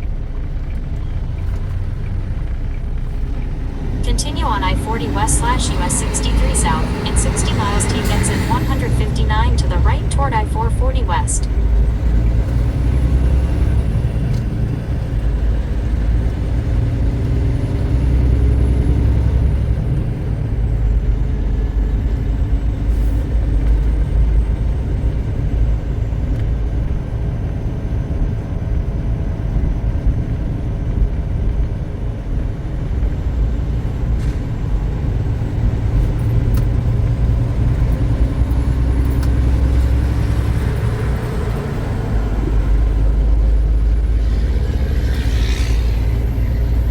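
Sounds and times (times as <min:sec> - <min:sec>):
road noise inside truck cab: 0:00.0 - 0:46.9
truck engine hum: 0:00.0 - 0:46.9.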